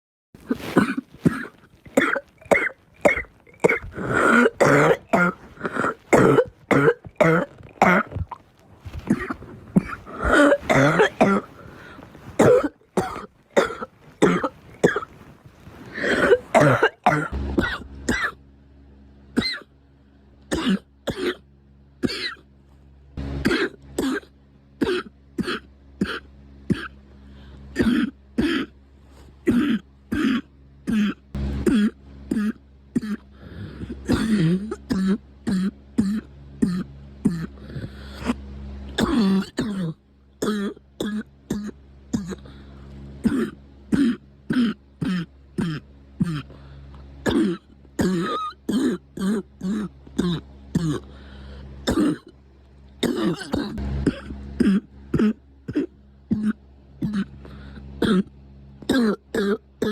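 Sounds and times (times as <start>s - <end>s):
person coughing: 0.4s - 15.2s, 15.8s - 18.4s, 19.4s - 19.7s, 20.5s - 22.5s, 23.4s - 27.0s, 27.7s - 28.8s, 29.4s - 38.4s, 39.0s - 42.6s, 43.2s - 46.6s, 47.2s - 51.2s, 51.8s - 52.3s, 53.0s - 59.9s.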